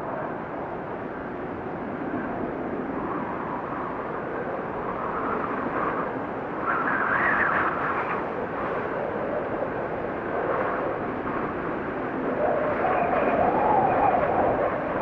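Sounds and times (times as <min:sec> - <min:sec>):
wind gusting: 0:00.0 - 0:15.0.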